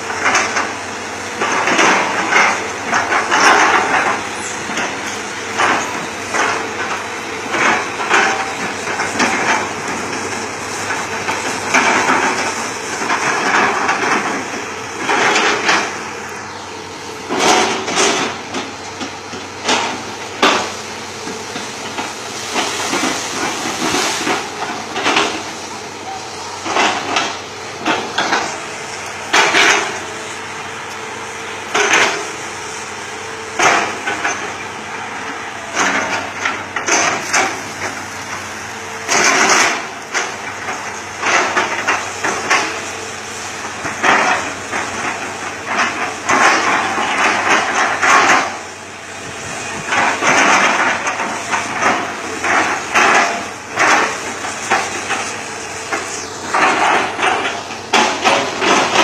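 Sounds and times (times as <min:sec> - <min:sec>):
excavator diesel engine running hard: 0:00.0 - 0:59.0.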